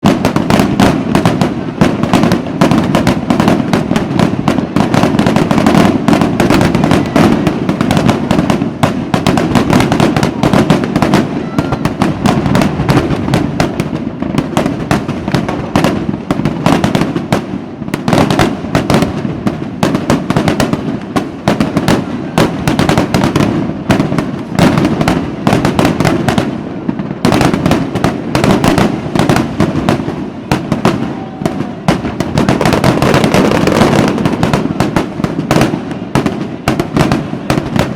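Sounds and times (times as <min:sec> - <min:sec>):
fireworks bangs and crackles: 0:00.0 - 0:37.9.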